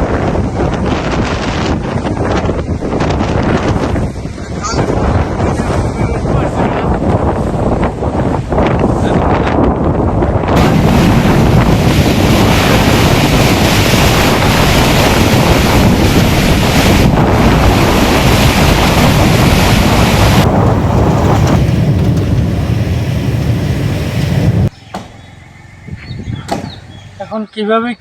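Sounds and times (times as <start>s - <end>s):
strong wind roaring on microphone: 0.0s - 24.8s, 25.8s - 27.2s.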